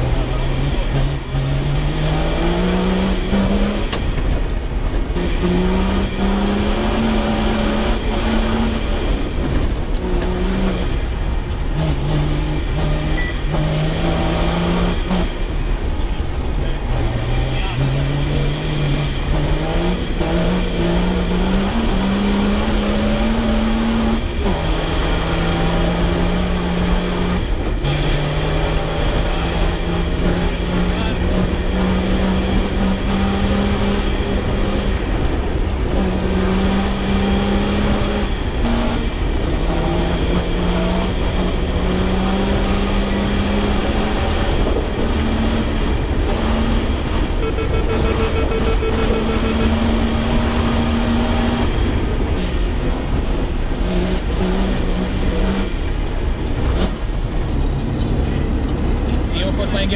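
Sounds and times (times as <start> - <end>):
engine shifting through gears: 0.0 - 59.9.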